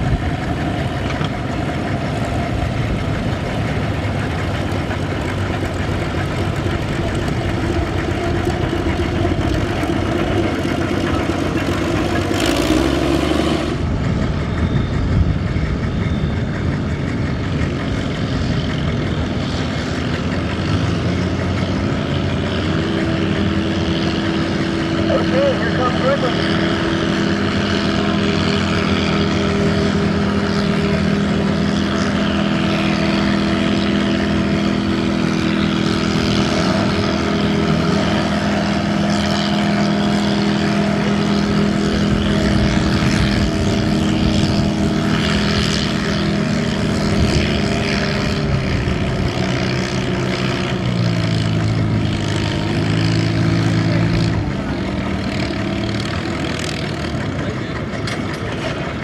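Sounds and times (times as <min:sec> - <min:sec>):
tractor engine working hard: 0:00.0 - 0:59.0.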